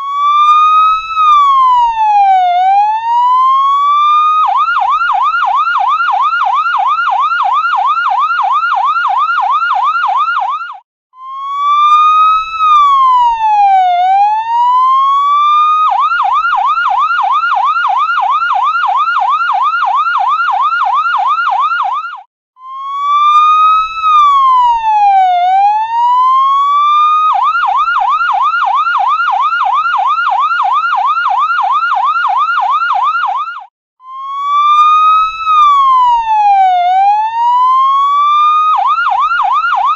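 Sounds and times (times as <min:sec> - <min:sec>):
ambulance siren yelp and wail: 0:00.0 - 0:39.9.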